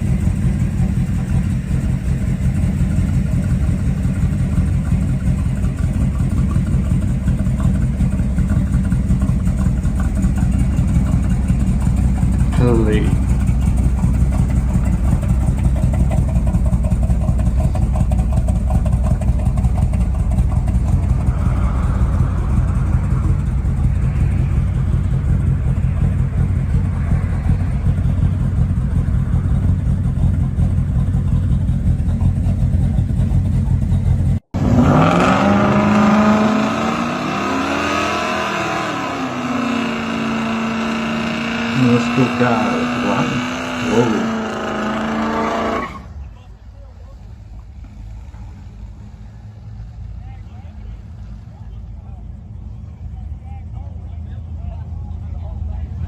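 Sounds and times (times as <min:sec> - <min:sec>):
engine revving: 0:00.0 - 0:46.2
car engine idling: 0:00.0 - 0:56.0.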